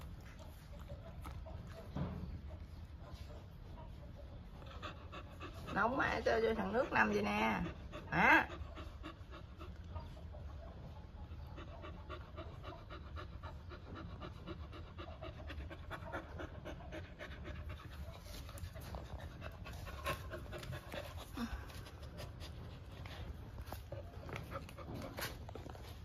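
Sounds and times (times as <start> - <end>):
puppy panting: 0.0 - 26.0.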